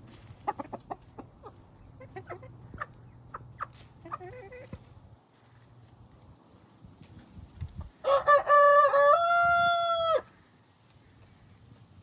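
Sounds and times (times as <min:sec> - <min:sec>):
chickens clucking: 0:00.0 - 0:11.8.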